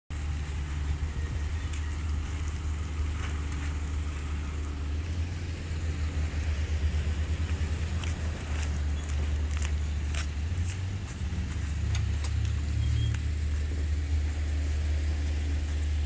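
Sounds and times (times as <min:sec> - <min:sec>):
steady low rumble: 0:00.1 - 0:16.0.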